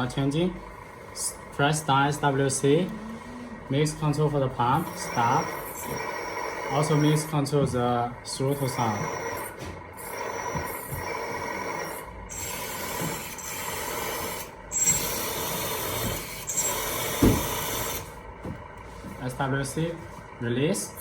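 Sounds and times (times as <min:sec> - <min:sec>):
hydraulic pump whirring: 0:00.0 - 0:21.0
simulated engine throttle sound: 0:00.0 - 0:21.0.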